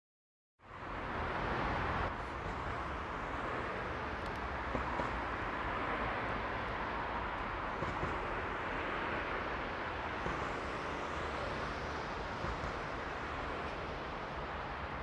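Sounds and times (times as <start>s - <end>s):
city traffic: 0.6s - 15.0s.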